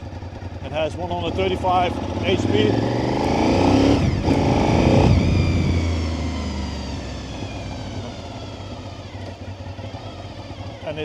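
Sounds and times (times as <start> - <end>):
motorcycle engine under throttle: 0.0 - 11.0.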